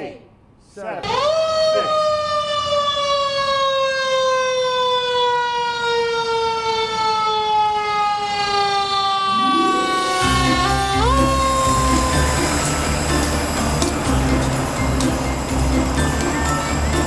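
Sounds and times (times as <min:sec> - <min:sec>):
fire engine siren wailing: 0:01.1 - 0:17.0.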